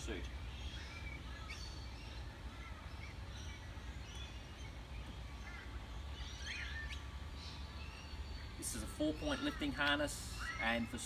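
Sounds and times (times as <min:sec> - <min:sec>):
birds chirping and whistling: 0:00.0 - 0:11.0
low background rumble: 0:00.0 - 0:11.0.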